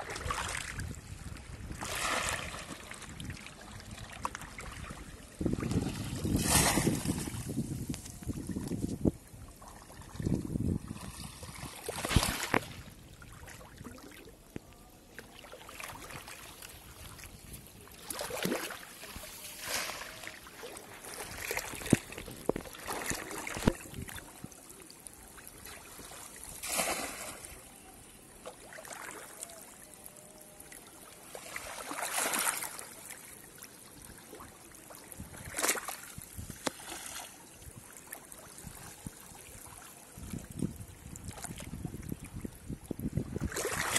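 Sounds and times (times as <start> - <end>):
pond water splashing: 0.0 - 8.7, 9.3 - 42.5, 43.2 - 43.9.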